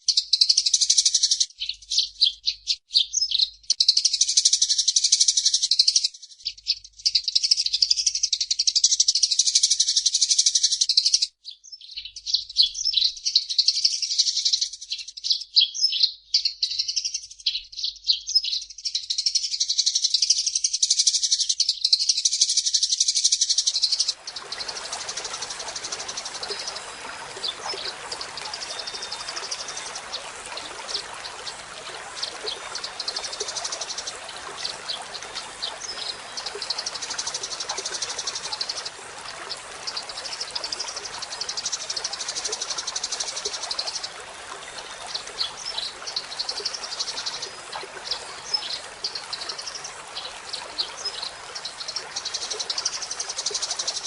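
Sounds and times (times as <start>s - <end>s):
sparrows chirping: 9.8s - 54.0s.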